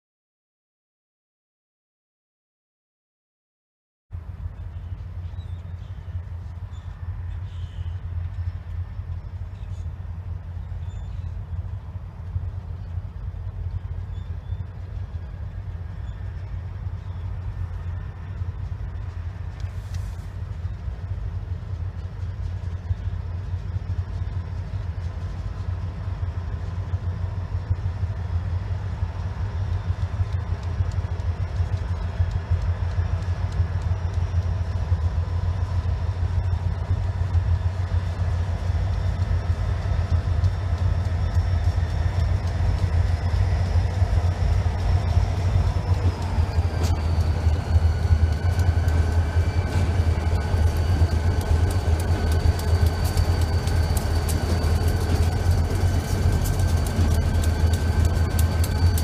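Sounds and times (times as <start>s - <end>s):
diesel locomotive engine rumble: 4.1s - 59.0s.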